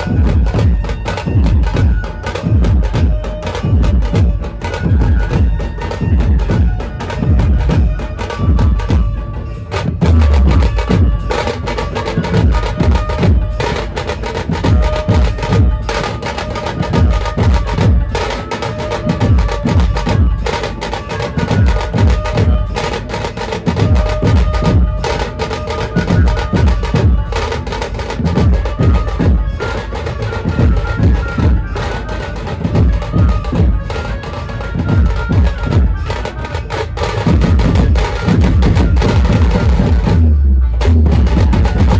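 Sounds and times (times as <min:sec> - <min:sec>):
heavy drums fast beat: 0:00.0 - 0:41.9
held melody line: 0:00.0 - 0:41.9.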